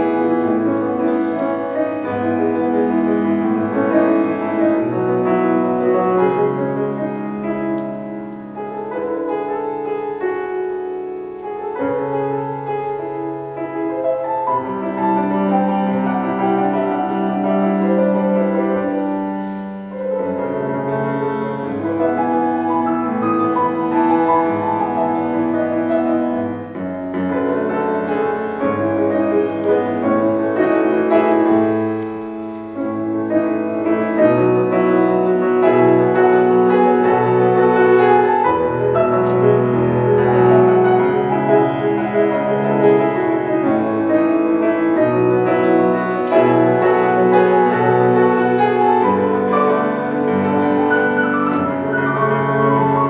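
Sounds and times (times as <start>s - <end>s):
slow solo piano piece: 0.0s - 53.0s.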